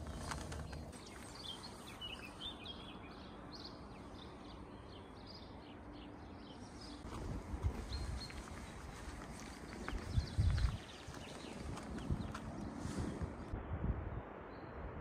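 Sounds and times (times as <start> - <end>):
small birds chirping: 0.0 - 13.5
low outdoor rumble: 0.0 - 15.0.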